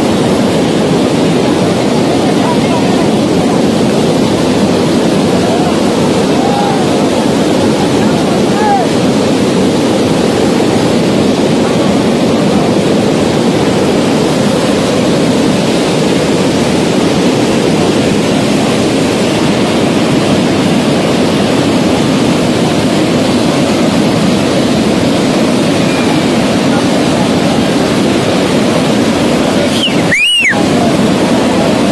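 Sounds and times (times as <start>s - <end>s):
flood river rushing: 0.0s - 31.9s.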